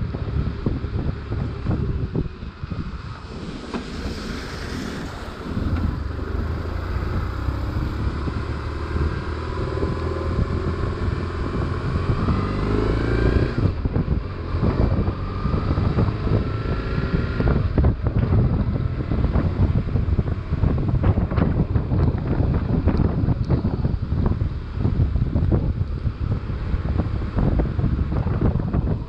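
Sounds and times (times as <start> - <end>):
motorcycle engine accelerating: 0.0 - 29.0
wind rush on microphone: 0.0 - 29.0.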